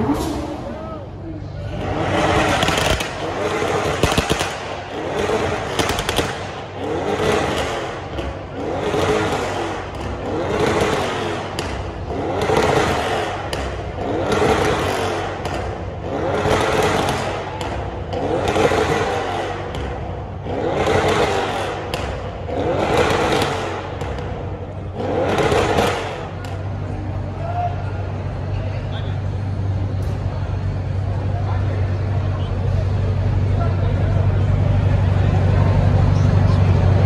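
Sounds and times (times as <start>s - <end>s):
car engine revving: 0.0s - 37.0s
exhaust crackles: 0.0s - 37.0s.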